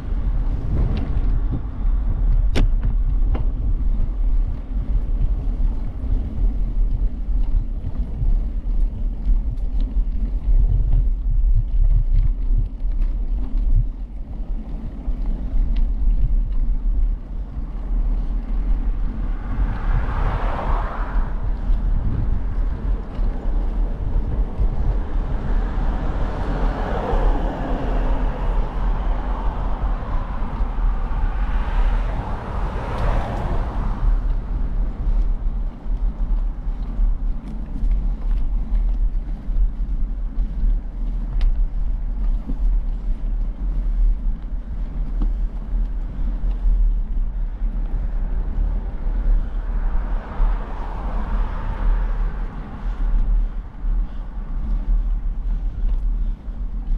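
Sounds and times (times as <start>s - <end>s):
wind and rolling rumble: 0.0s - 56.9s.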